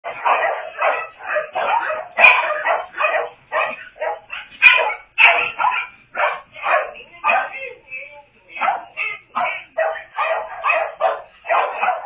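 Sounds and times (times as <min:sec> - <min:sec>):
dogs barking: 0:00.0 - 0:07.7, 0:08.6 - 0:12.0.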